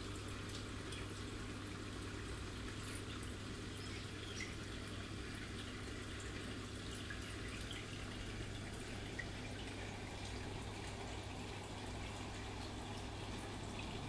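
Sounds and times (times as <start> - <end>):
constant low hum: 0.0 - 14.0
water trickling and dripping: 0.0 - 14.0.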